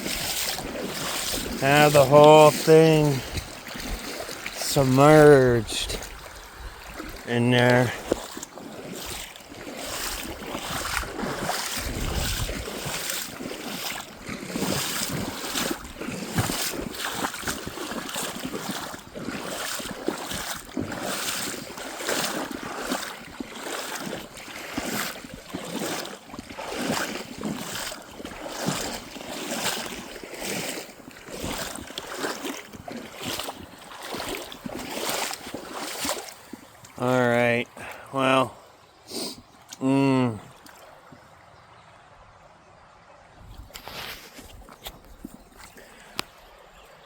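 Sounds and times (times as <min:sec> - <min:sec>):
water sloshing around wading legs: 0:00.0 - 0:38.1, 0:38.7 - 0:41.8, 0:43.5 - 0:47.0.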